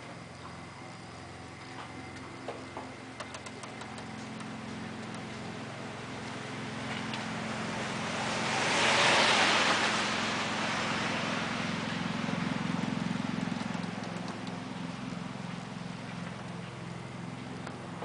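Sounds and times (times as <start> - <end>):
low mechanical hum: 0.0 - 18.0
vehicle passing: 2.9 - 18.0.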